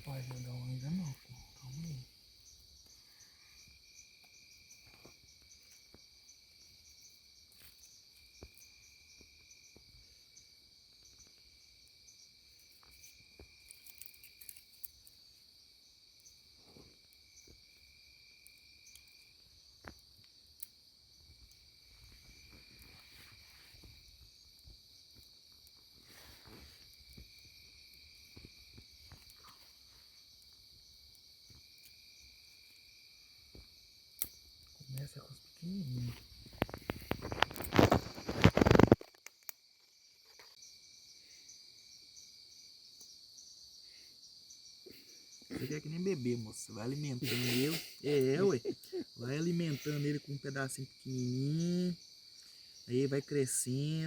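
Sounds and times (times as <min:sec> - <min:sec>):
insect buzzing trill: 0:00.0 - 0:19.7, 0:21.1 - 0:54.0
crickets trilling: 0:00.0 - 0:54.0.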